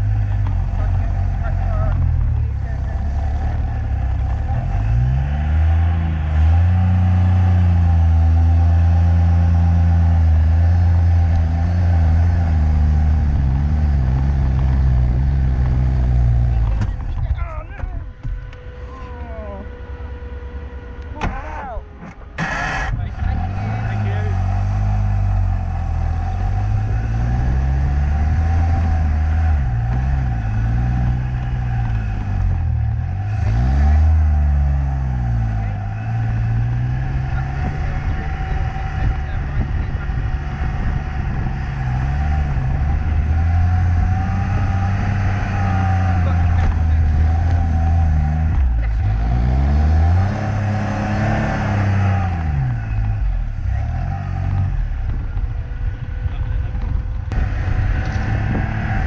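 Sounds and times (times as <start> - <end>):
car engine driving uphill: 0.0 - 59.0.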